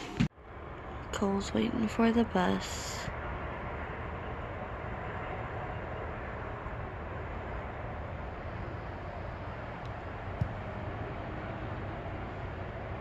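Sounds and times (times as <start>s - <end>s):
steady low background noise: 0.0s - 13.0s.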